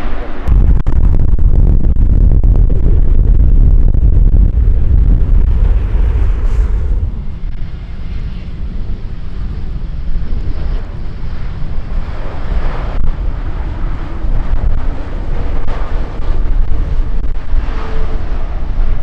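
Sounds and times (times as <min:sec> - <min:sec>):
jet airliner landing rumble: 0:00.0 - 0:19.0.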